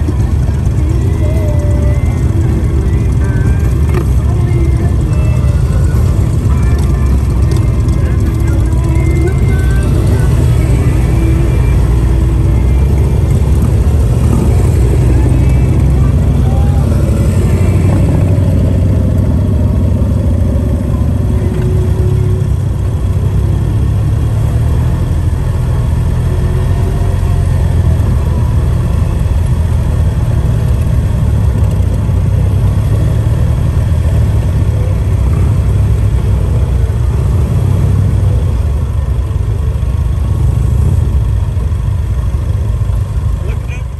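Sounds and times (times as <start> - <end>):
motorcycle engines: 0.0 - 43.9
vehicle engine rumbling: 0.0 - 43.9.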